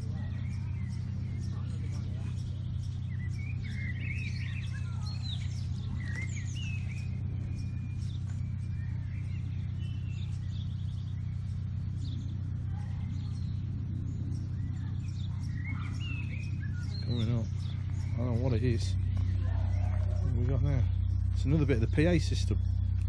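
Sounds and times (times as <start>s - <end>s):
songbirds chirping: 0.0s - 23.0s
steady low hum: 0.0s - 23.0s.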